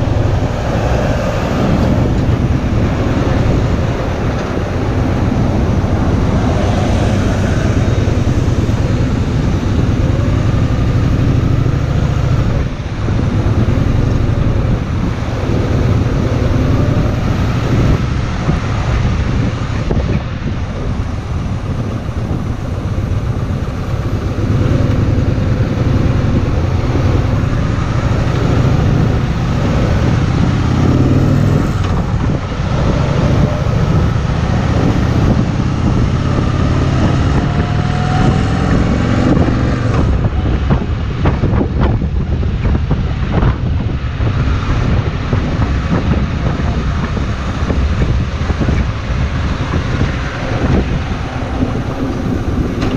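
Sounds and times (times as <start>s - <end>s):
motorcycle engine running: 0.0s - 52.9s
wind rushing over microphone: 0.0s - 52.9s.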